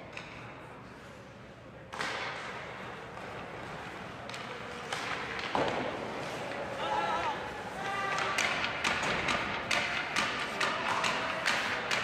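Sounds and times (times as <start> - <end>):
rush of arena crowd noise: 0.0 - 12.0.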